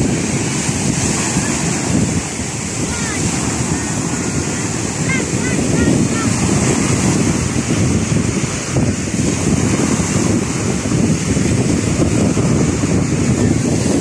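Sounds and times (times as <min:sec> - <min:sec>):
small waves breaking on beach: 0:00.0 - 0:14.0
wind buffeting microphone: 0:00.0 - 0:14.0.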